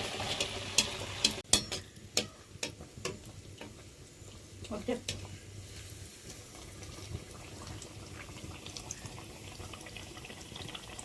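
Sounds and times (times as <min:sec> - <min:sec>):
fritters deep-frying in hot oil: 0:00.0 - 0:11.0.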